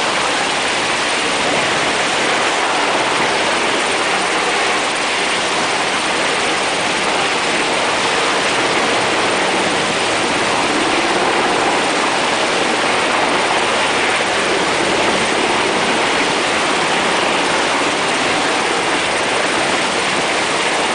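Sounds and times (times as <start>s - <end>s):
helicopters flying over: 0.0s - 20.9s.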